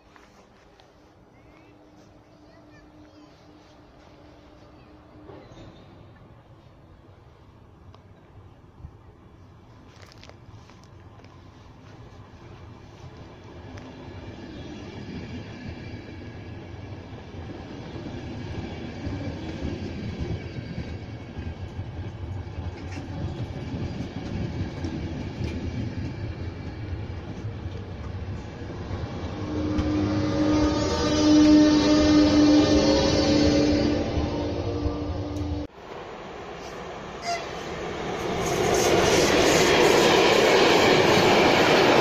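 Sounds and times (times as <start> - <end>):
electric locomotive hum and whine: 0.0 - 42.0
train rumbling over rails: 0.0 - 42.0.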